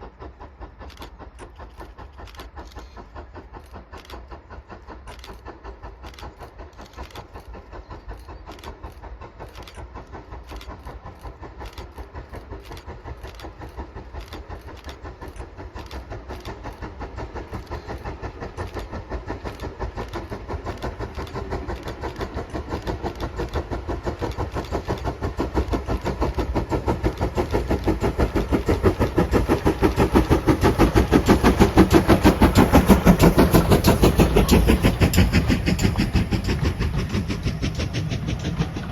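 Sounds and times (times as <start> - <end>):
steam locomotive exhaust beats: 0.0 - 38.9.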